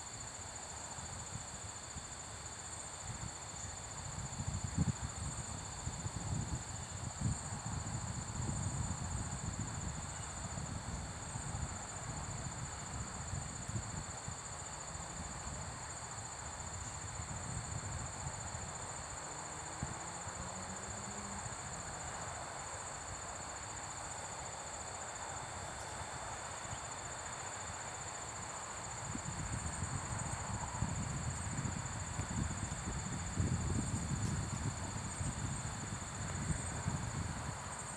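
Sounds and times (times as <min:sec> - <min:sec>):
insects chirring: 0:00.1 - 0:37.9.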